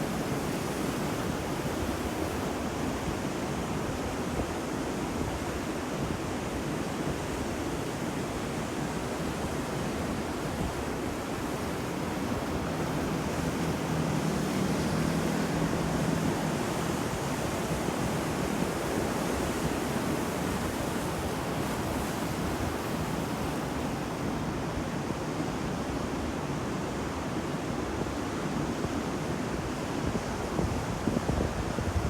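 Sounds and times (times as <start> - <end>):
waves washing onto shore: 0.0 - 32.0.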